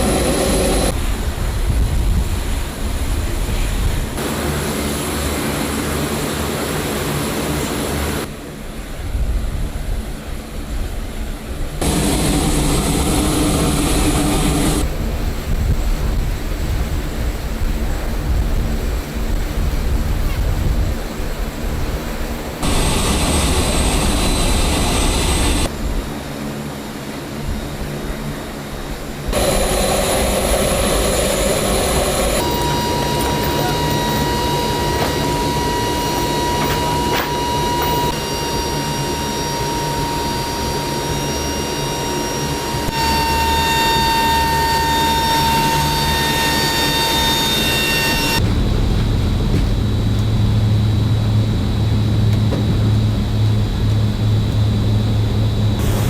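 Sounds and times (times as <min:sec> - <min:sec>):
turboprop aircraft engines running: 0:00.0 - 0:56.0.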